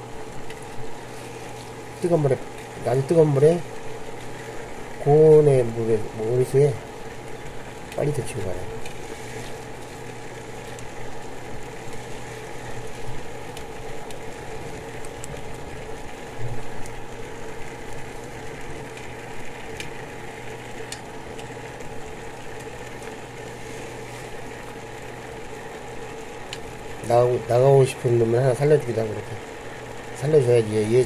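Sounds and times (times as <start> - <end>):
induction cooktop humming: 0.0 - 31.0
pot of water boiling: 0.0 - 31.0.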